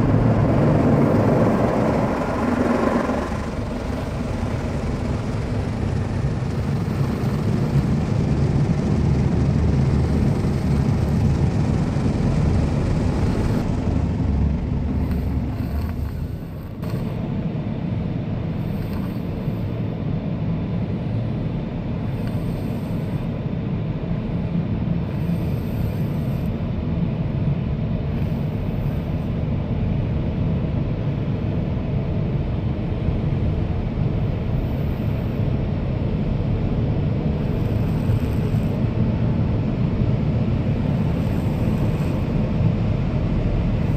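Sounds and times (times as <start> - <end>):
car wash machinery rumble: 0.0 - 43.9.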